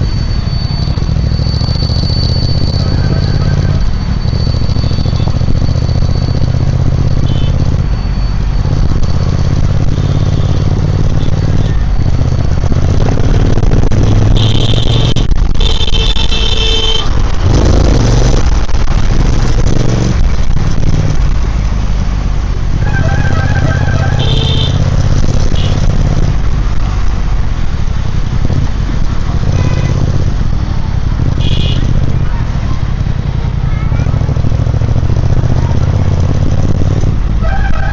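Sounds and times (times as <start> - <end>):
motorcycle engine and exhaust running: 0.0 - 37.9.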